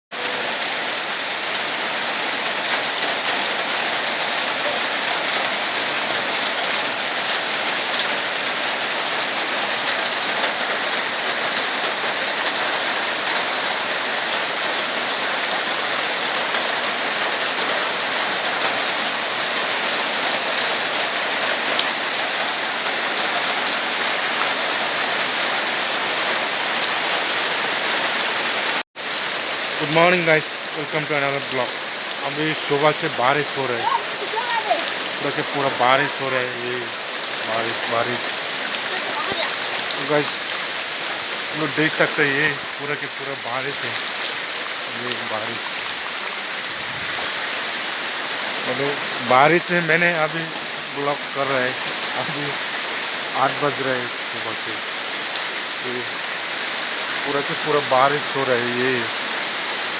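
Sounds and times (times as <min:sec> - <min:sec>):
heavy rain: 0:00.1 - 0:59.9.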